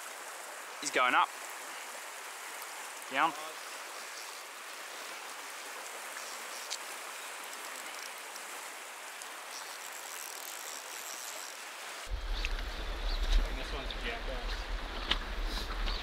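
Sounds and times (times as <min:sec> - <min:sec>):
river water rushing over stones: 0:00.0 - 0:16.0.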